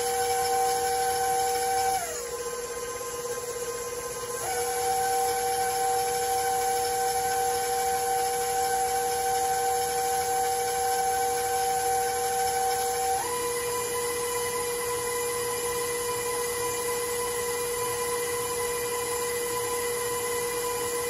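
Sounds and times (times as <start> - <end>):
stand mixer motor whining: 0.0 - 21.0.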